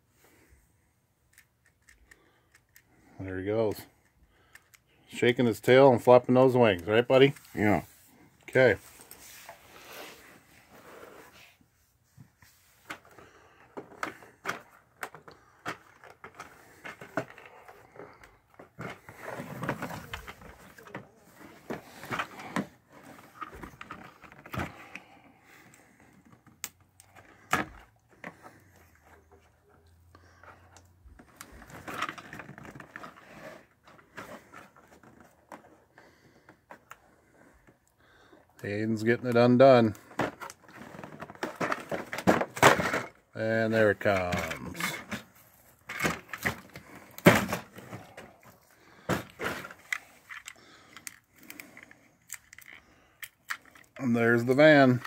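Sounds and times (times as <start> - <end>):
hands handling plastic toys: 0.2 - 55.0.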